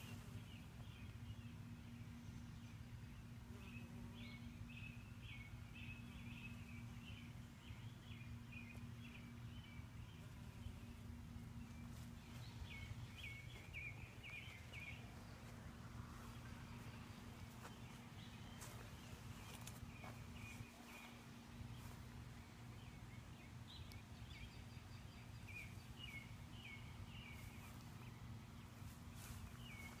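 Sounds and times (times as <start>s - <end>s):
songbird chirping: 0.0s - 30.0s
steady low hum: 0.0s - 30.0s.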